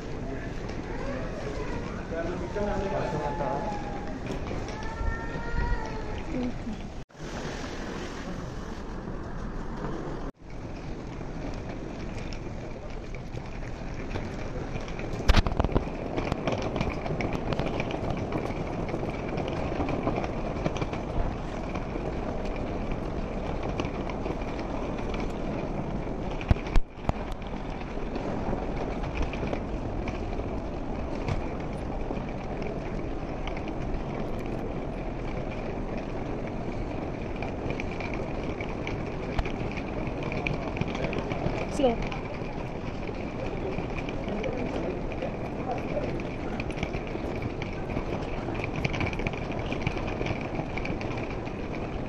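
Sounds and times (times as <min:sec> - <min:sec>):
airport terminal background noise: 0:00.0 - 0:07.0, 0:08.5 - 0:52.0
footsteps on stone tiles: 0:00.0 - 0:52.0.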